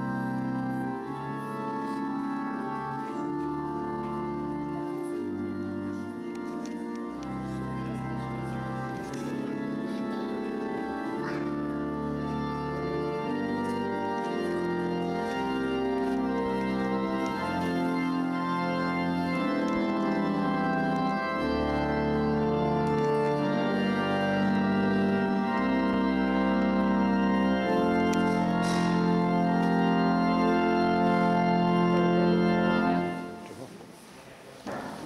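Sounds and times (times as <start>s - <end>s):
organ playing sustained chords: 0.0s - 33.8s.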